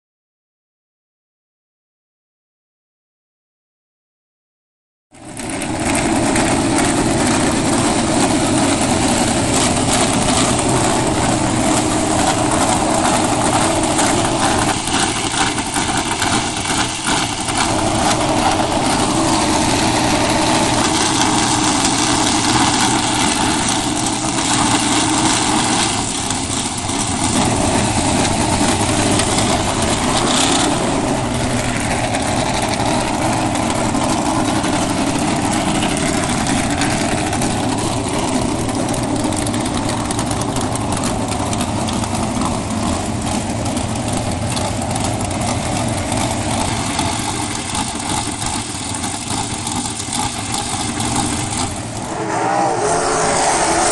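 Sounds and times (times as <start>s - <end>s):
racing car engines running: 5.2s - 53.9s.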